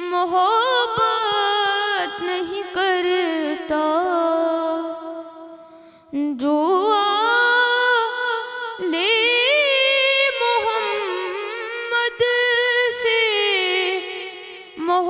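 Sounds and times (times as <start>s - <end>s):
boy singing unaccompanied: 0.0s - 5.4s, 6.2s - 15.0s.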